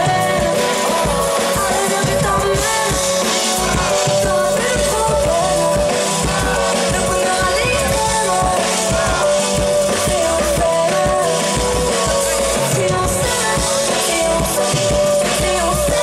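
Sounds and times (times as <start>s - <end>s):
drum kit: 0.0s - 16.0s
keyboards: 0.0s - 16.0s
woman singing into a microphone: 0.0s - 16.0s.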